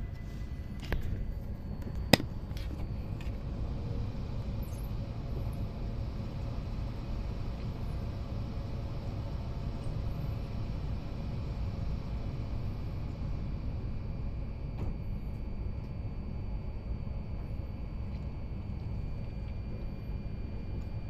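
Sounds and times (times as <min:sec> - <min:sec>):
train interior hum: 0:00.0 - 0:21.0.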